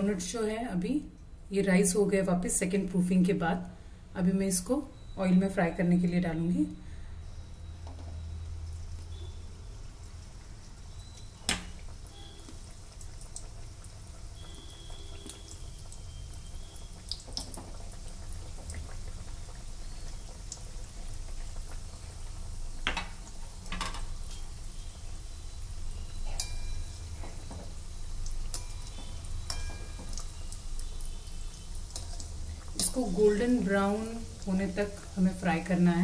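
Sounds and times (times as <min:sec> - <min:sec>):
donuts sizzling in hot oil: 0:07.0 - 0:36.0.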